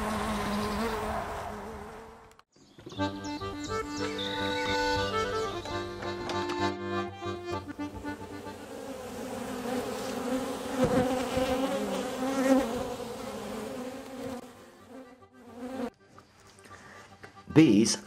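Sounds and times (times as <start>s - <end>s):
bees buzzing: 0.0s - 2.4s, 3.0s - 16.0s.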